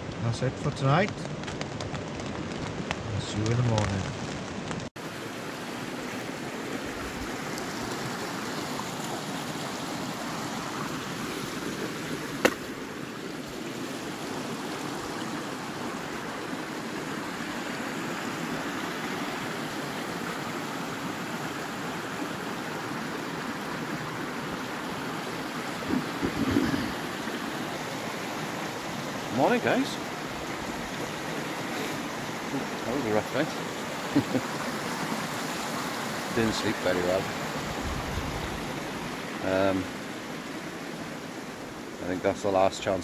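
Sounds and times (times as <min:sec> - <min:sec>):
woodland stream flowing: 0:00.0 - 0:43.0.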